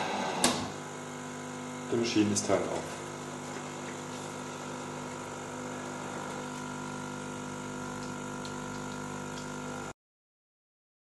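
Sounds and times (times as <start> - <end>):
coffee machine pump humming: 0.0 - 10.0.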